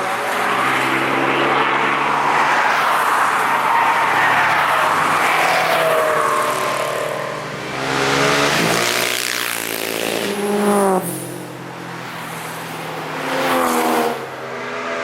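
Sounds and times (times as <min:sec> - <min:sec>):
cars passing at speed: 0:00.0 - 0:15.0.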